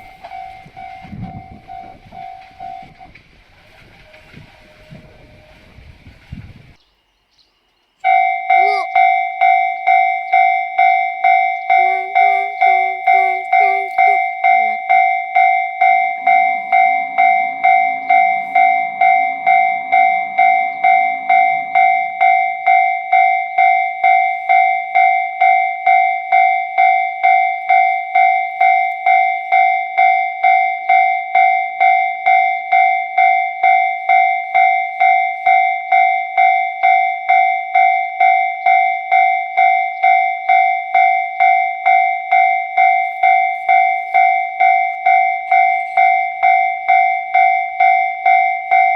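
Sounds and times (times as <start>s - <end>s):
level crossing alarm bell ringing: 0.0s - 3.1s, 8.0s - 48.9s.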